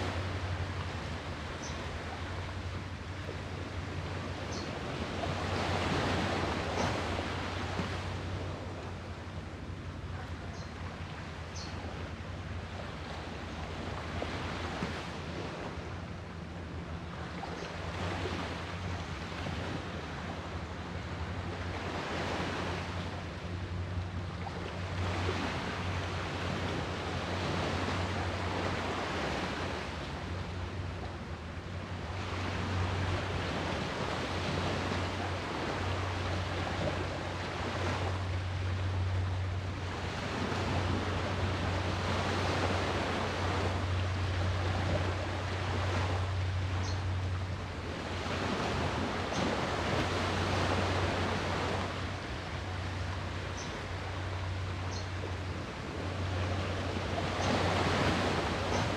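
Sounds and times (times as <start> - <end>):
sea waves breaking: 0.0 - 58.9
steady low hum: 0.0 - 58.9.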